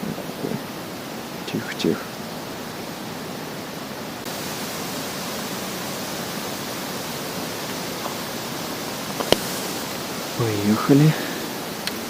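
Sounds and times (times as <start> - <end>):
strong wind hiss: 0.0 - 12.0.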